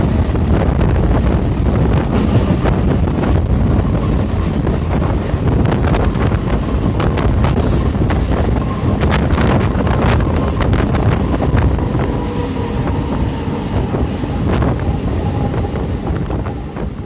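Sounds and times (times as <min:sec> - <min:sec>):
train wheels rumbling on track: 0:00.0 - 0:17.0
wind buffeting microphone: 0:00.0 - 0:17.0.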